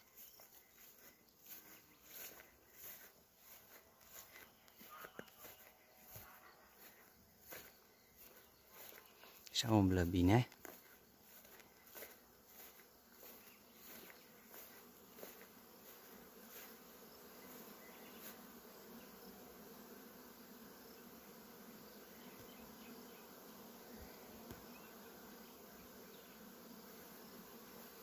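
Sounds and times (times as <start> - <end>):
honeybees humming: 0.0 - 28.0.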